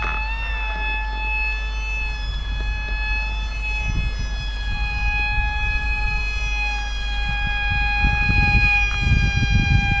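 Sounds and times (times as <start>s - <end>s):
toy plane motor whining: 0.0s - 10.0s
wind rumble on microphone: 0.0s - 10.0s.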